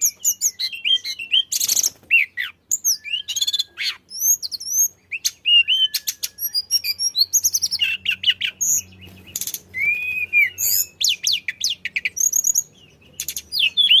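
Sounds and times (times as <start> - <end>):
songbird singing fast: 0.0 - 14.0.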